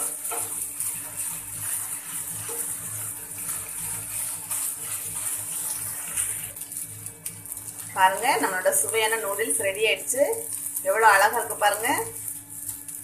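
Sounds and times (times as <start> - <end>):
noodles sizzling in pan: 0.0 - 13.0.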